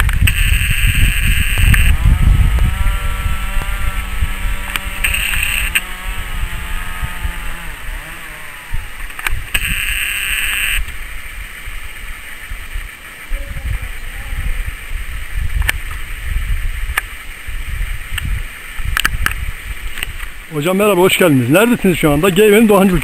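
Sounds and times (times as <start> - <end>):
motor-like drone: 0.0 - 23.0
wind on microphone: 0.0 - 23.0.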